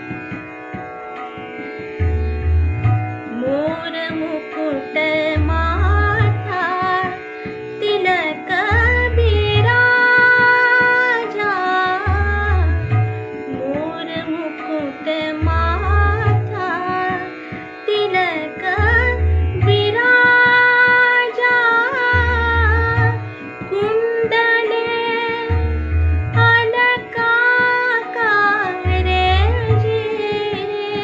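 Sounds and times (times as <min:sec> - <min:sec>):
low tabla strokes: 0:00.0 - 0:31.0
woman singing: 0:03.3 - 0:25.7, 0:26.3 - 0:31.0.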